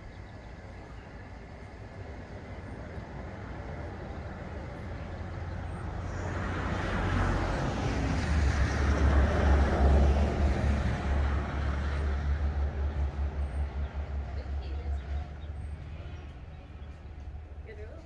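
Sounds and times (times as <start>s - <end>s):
highway traffic passing: 0.0s - 18.0s.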